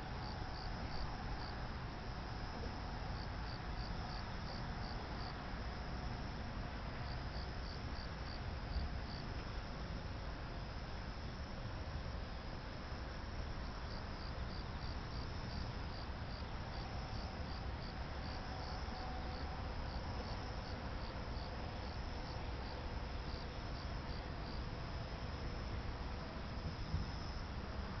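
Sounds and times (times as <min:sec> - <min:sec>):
constant hiss: 0:00.0 - 0:28.0
cricket chirping: 0:00.1 - 0:01.6, 0:02.3 - 0:06.2, 0:07.0 - 0:09.8, 0:12.2 - 0:28.0.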